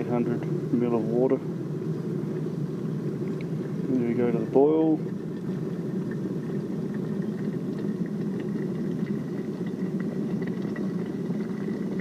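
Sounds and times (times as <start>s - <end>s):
kettle water boiling: 0.0s - 12.0s.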